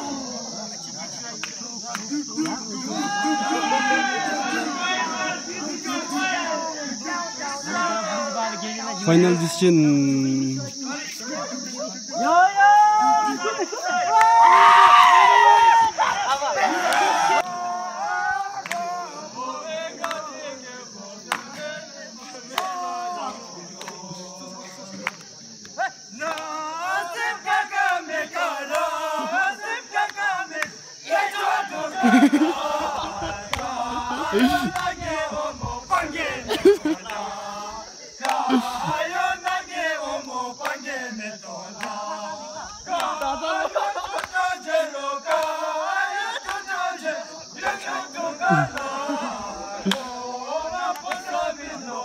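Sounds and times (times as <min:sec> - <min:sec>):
high buzz of insects: 0:00.0 - 0:52.0
men chanting a song: 0:00.0 - 0:52.0
steady high hiss: 0:00.0 - 0:52.0.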